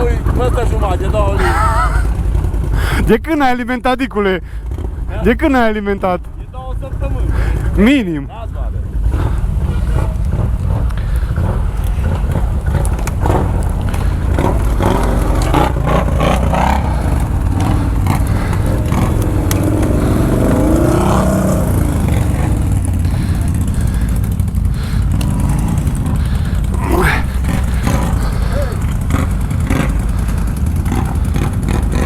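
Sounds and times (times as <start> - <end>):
atv engine rumbling: 0.0 - 32.0.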